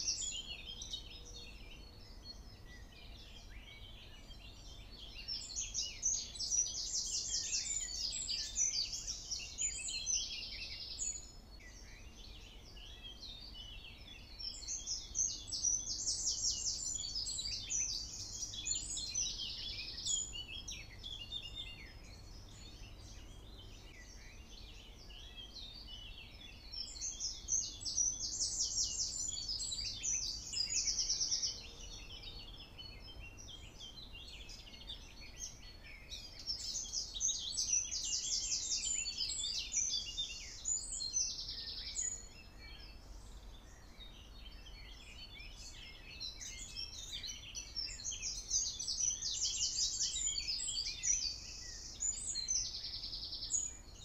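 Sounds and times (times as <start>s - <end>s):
songbird chirping and trilling: 0.0s - 54.0s.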